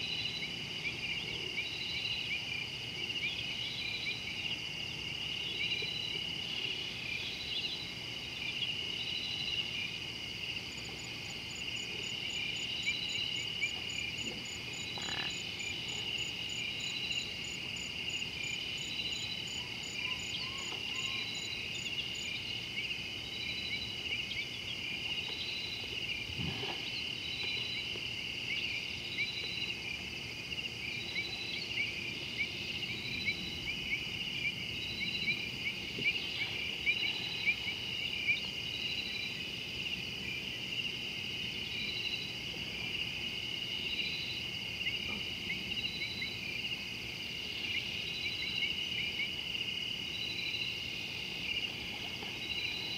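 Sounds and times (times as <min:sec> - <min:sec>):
high pulsing insect call: 0:00.0 - 0:52.9
insects trilling: 0:00.0 - 0:52.9.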